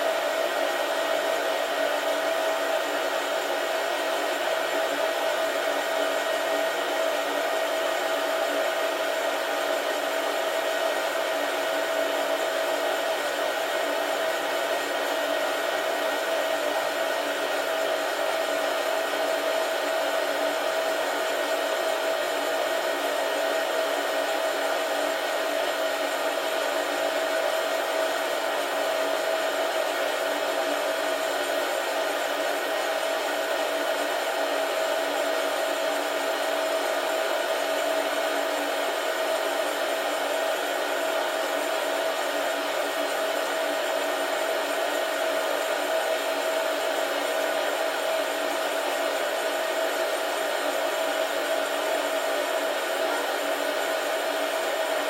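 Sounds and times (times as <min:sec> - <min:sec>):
coffee roaster blowing and whining: 0:00.0 - 0:55.0.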